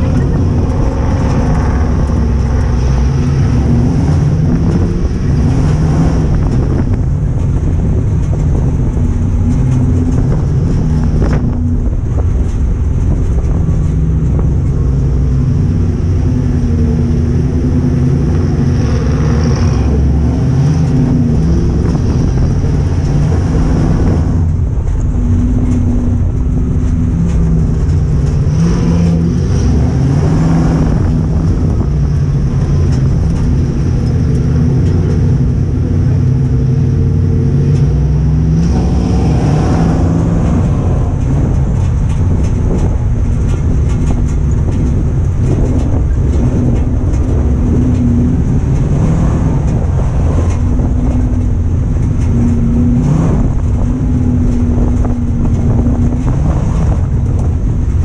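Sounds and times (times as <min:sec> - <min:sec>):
race car engine running hard: 0:00.0 - 0:58.0
road and wind noise: 0:00.0 - 0:58.0.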